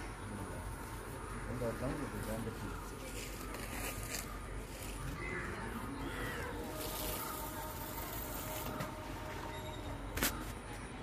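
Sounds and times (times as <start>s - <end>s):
riverside ambience: 0.0s - 11.0s.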